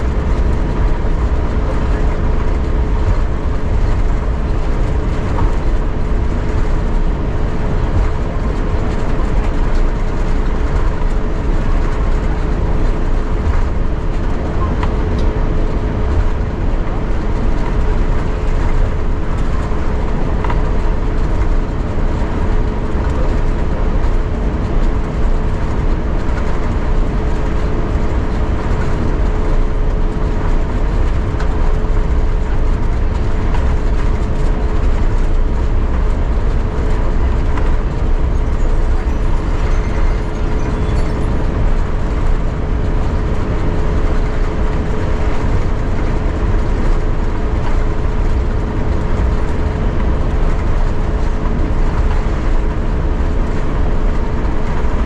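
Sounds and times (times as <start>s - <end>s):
aircraft cabin rumble and hum: 0.0s - 55.0s.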